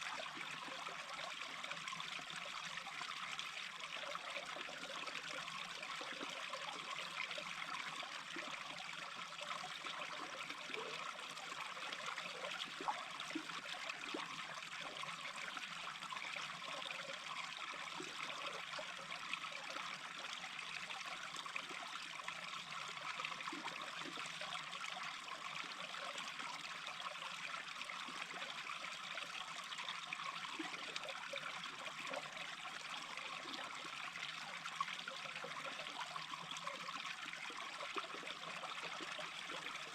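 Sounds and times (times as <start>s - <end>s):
brook babbling: 0.0s - 39.9s
water gurgling: 0.0s - 39.9s.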